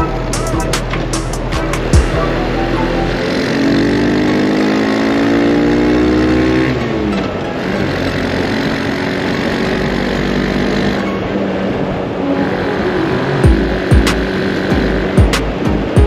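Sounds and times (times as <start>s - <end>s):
motorcycle engine accelerating: 0.0s - 16.0s
road and wind noise: 0.0s - 16.0s.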